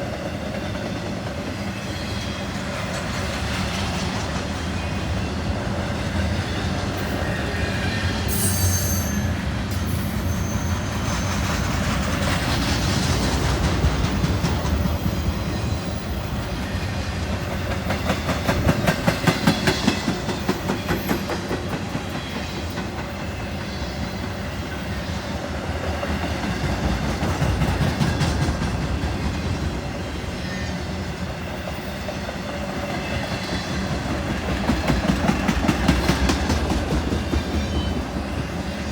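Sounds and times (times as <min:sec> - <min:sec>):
freight train wheels clicking: 0:00.0 - 0:38.9
train wheel squeal: 0:00.0 - 0:38.9.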